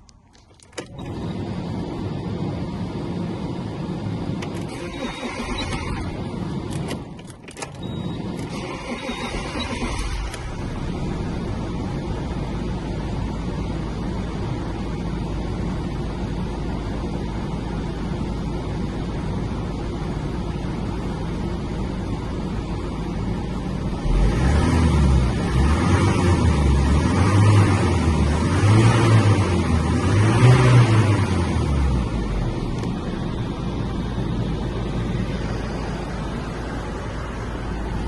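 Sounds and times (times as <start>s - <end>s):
diesel engine idling and revving: 0.0s - 38.0s.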